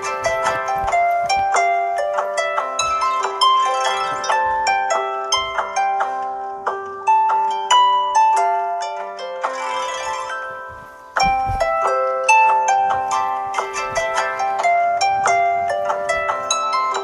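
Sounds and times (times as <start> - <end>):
plucked harp-like ringtone melody: 0.0 - 17.0.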